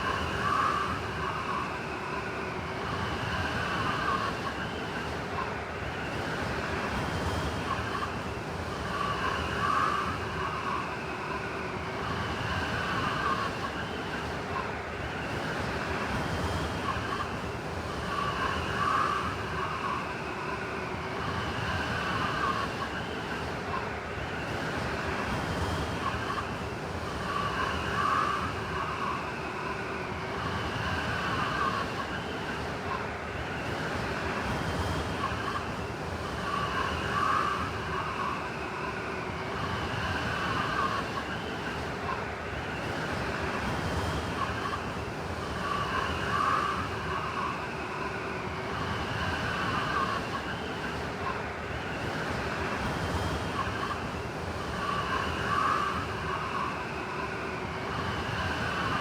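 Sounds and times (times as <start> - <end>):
blizzard wind rushing: 0.0 - 59.0.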